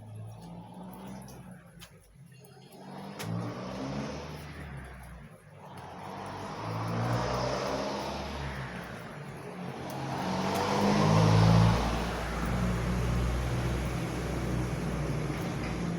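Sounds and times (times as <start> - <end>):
road vehicles passing by: 0.0 - 15.9.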